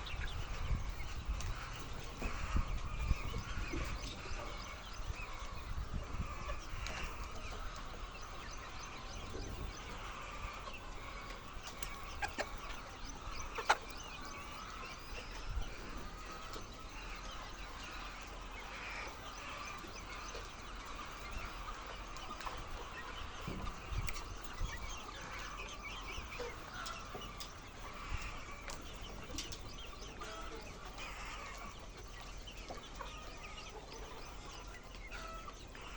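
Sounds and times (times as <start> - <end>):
hens clucking: 0.0 - 35.9.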